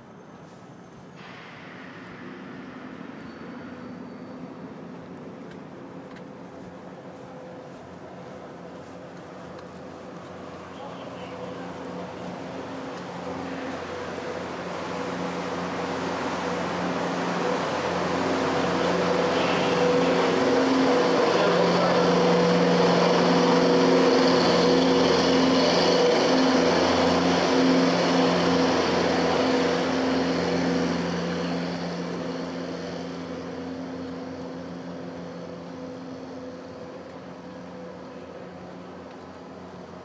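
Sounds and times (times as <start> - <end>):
engine passing slowly: 1.2 - 40.0.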